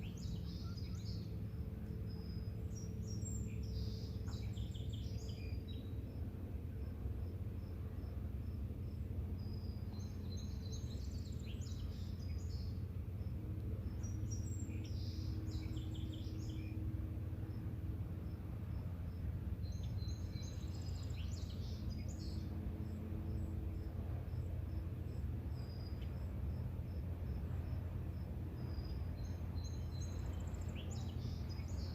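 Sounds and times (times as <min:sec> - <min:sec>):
songbird singing: 0:00.0 - 0:31.9
steady low rumble: 0:00.0 - 0:31.9.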